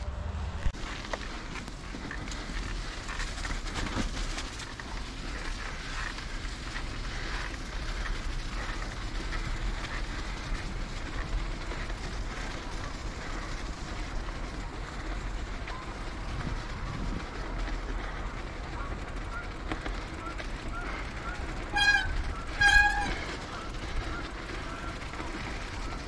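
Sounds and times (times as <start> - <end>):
bicycle tyres rumbling on snowy boards: 0.3 - 26.0.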